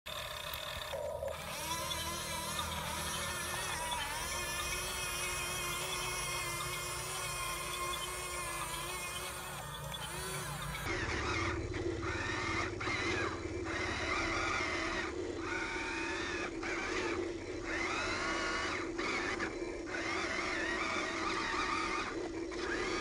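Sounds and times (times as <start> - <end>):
toy electric motor whining: 0.1 - 23.0.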